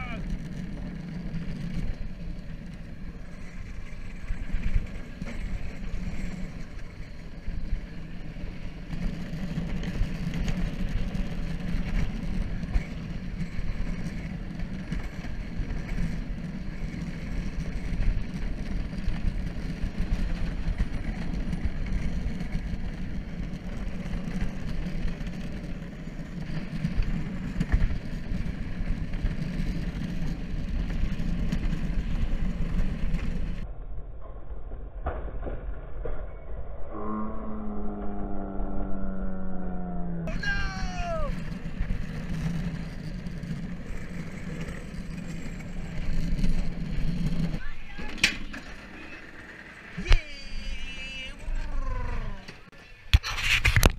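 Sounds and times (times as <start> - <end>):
wheels rumbling on asphalt: 0.0 - 53.9.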